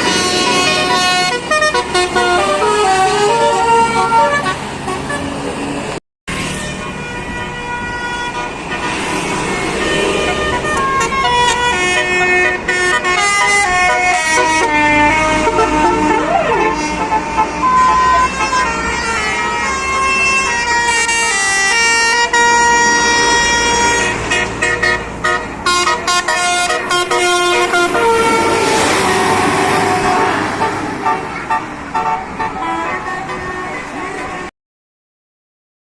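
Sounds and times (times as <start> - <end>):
bus air horn melody: 0.0 - 5.6, 6.3 - 34.5.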